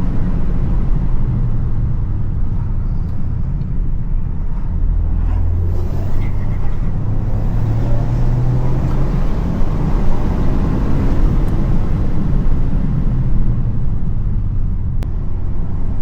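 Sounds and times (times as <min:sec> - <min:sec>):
car engine low drone: 0:00.0 - 0:16.0.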